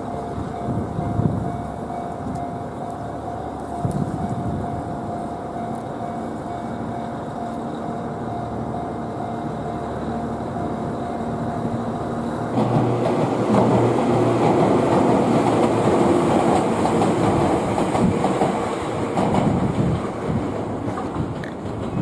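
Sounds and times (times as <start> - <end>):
railcar engine hum and rush: 0.0 - 22.0
wheels clacking over rail joints: 0.0 - 22.0.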